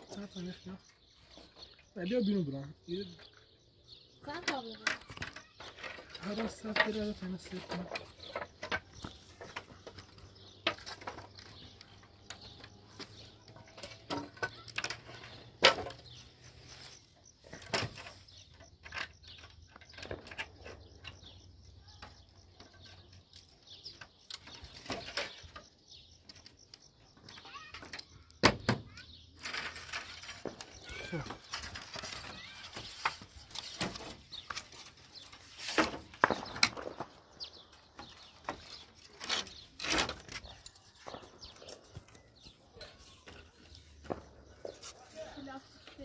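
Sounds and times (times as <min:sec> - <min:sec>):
wooden slats rattling: 0:04.3 - 0:16.7, 0:17.4 - 0:42.2.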